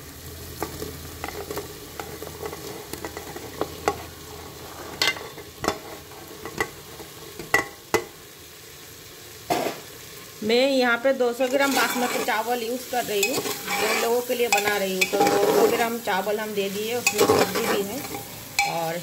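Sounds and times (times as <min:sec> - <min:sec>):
vegetables sizzling in a pot: 0:00.0 - 0:19.0.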